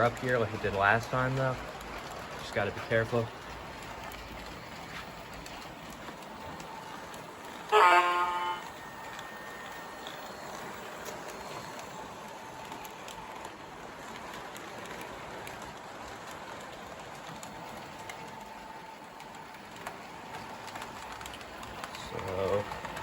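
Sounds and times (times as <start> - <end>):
model train motor whirring: 0.0 - 23.0
wheels clicking on track: 0.0 - 23.0.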